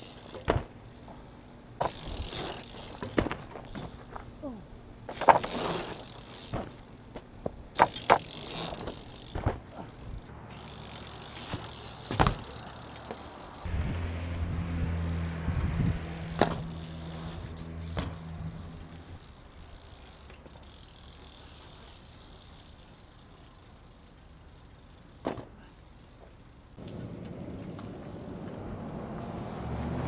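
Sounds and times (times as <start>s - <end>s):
bike wheels clacking on pavement: 0.0s - 4.4s, 5.1s - 13.7s, 16.2s - 28.8s
steady low hum: 0.0s - 25.2s.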